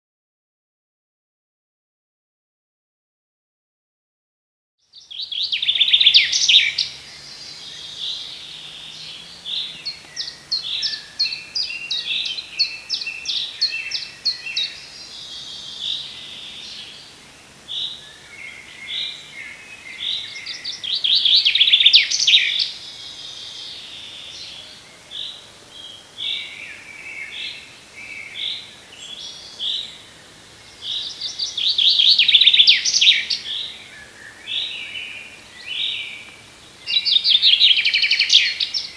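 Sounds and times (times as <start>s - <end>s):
birds singing soft notes: 4.8s - 38.9s.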